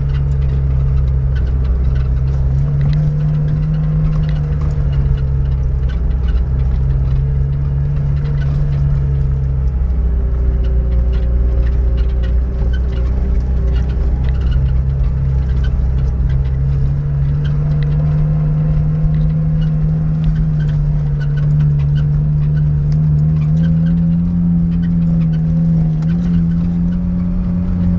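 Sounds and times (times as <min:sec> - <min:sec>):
car engine under load: 0:00.0 - 0:27.9
knocks and rattles on rough track: 0:00.0 - 0:27.9.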